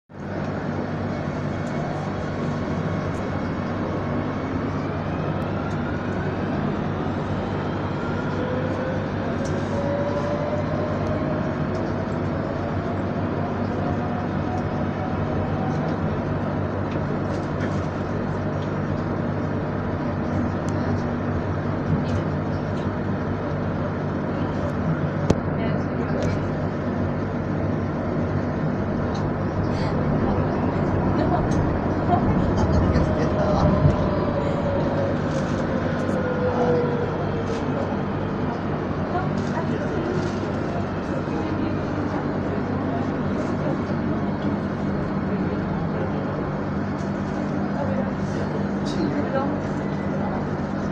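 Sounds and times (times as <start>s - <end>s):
train wheels rumbling on rail: 0.2s - 50.9s.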